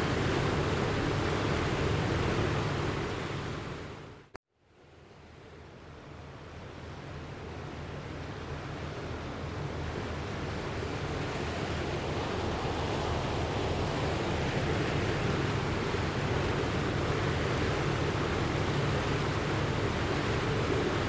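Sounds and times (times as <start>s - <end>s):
surging water and surf: 0.0s - 21.0s.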